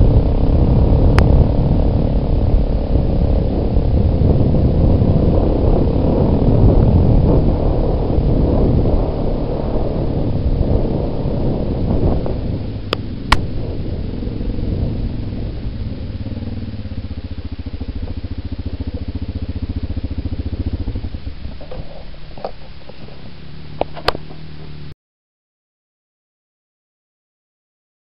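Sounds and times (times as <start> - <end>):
atv engine idling: 0.0 - 24.9.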